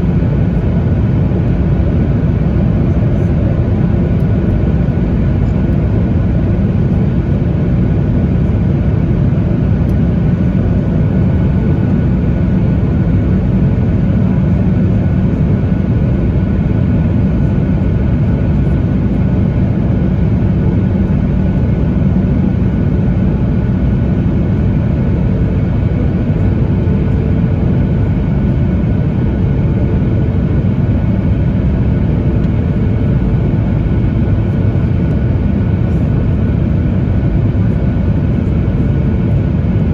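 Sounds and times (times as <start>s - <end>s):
aircraft cabin engine hum: 0.0s - 39.9s.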